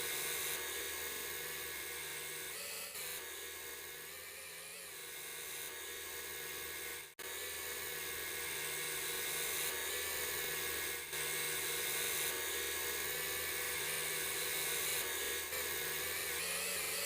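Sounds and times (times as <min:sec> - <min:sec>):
woodworking power tool whining: 0:00.0 - 0:17.0.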